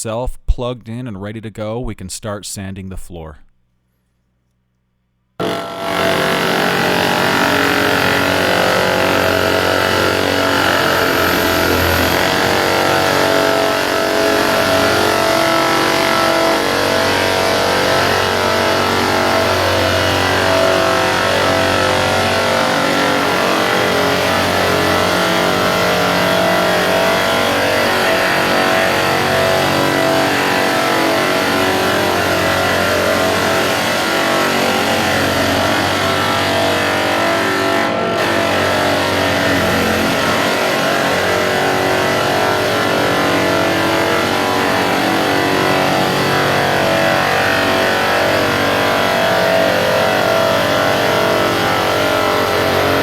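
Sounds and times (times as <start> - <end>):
drum sander grinding floor: 5.4 - 53.0.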